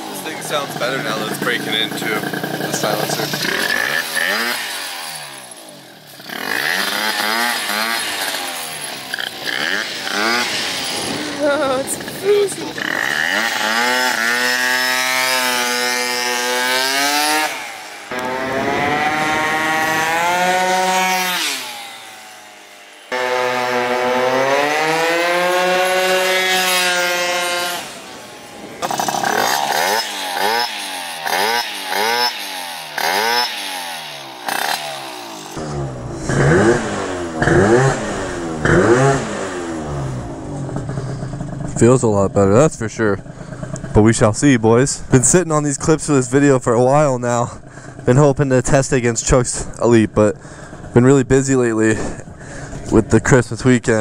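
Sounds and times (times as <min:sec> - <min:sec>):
engine throttle blips: 0:00.0 - 0:54.0
scooter engine revving: 0:00.0 - 0:54.0.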